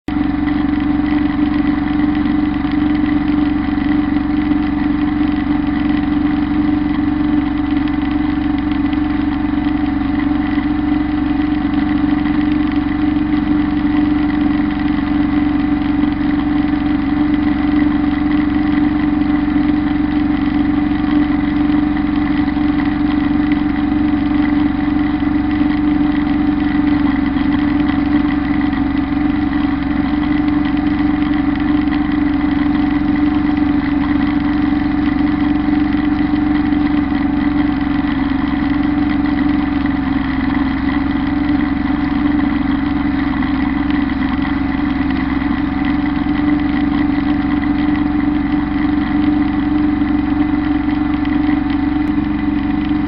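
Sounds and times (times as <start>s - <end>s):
tractor diesel engine and mower drone: 0.0s - 53.0s.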